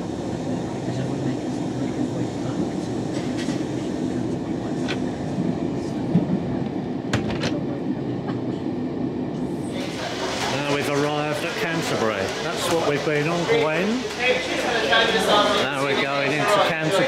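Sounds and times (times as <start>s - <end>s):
railway carriage rumble: 0.0s - 17.0s.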